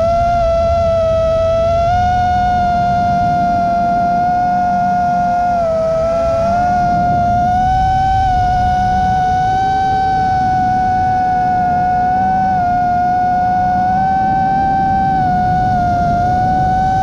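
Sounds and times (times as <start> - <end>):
drone motors whining: 0.0 - 17.0
rushing air noise: 0.0 - 17.0.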